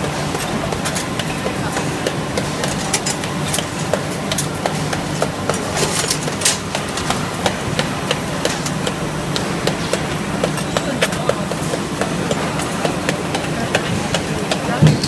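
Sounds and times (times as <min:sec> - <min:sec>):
factory hum: 0:00.0 - 0:15.0.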